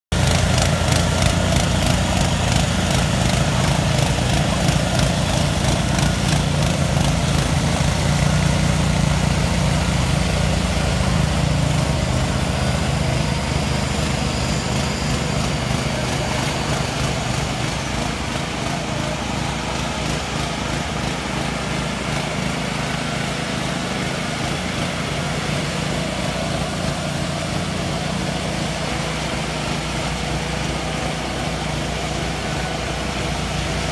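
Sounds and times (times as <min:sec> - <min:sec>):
power trowel engines humming: 0:00.1 - 0:33.9.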